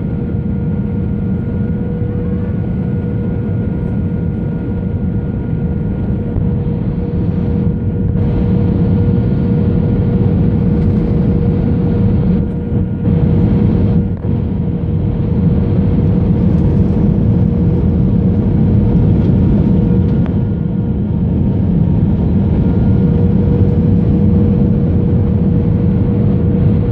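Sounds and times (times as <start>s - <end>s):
aircraft interior rumble: 0.0s - 26.9s
steady hum: 0.0s - 26.9s.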